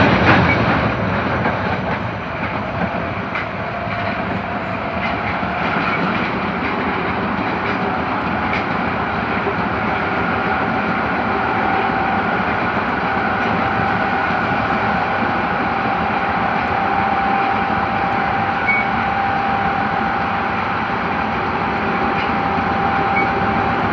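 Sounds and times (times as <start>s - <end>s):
train motor whine: 0.0s - 23.9s
wheel and track noise: 0.0s - 23.9s.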